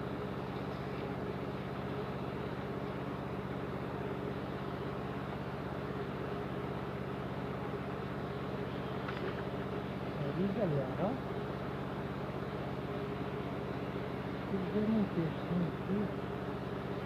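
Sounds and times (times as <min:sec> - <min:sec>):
motor humming with fast pulse: 0:00.0 - 0:17.0.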